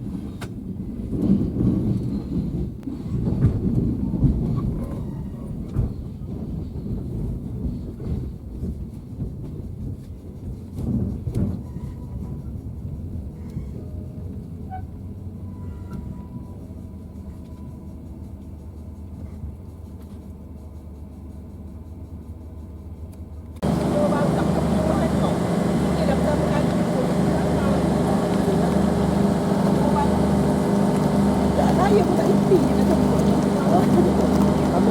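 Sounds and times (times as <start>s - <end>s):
train rumble on rails: 0.0s - 34.9s.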